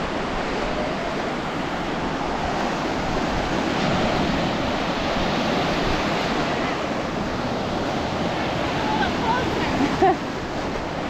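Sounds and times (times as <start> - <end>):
ocean waves breaking on beach: 0.0 - 11.0.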